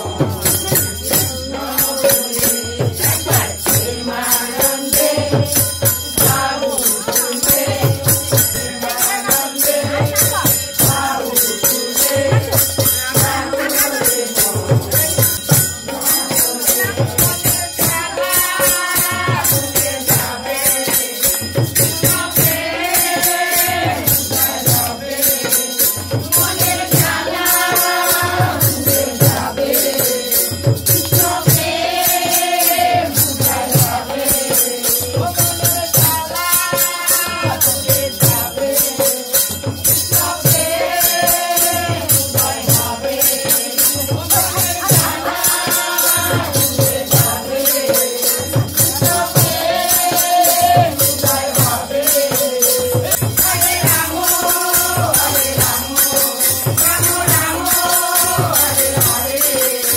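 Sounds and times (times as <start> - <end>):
hand drum beat: 0.0 - 59.8
group singing a chant: 0.0 - 59.9
jingling cymbals: 0.0 - 59.9.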